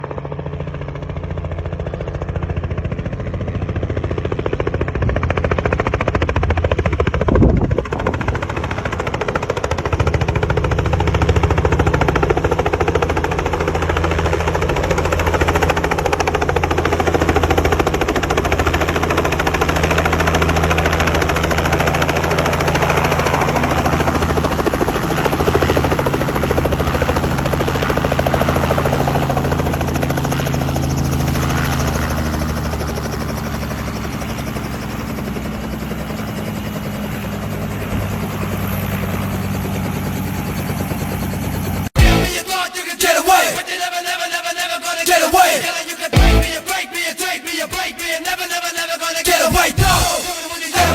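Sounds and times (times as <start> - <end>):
helicopter engine drone: 0.0 - 50.9
helicopter rotor chopping: 0.0 - 50.9.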